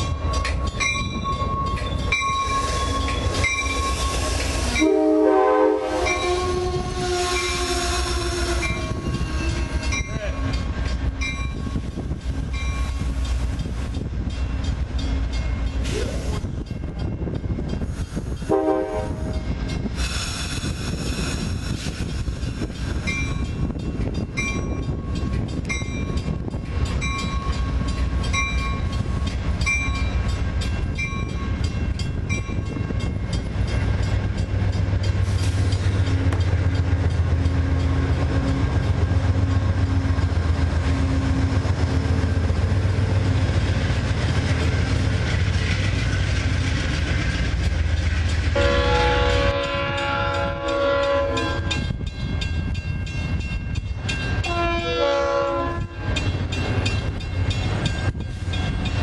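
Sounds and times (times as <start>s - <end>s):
deep train rumble: 0.0s - 59.0s.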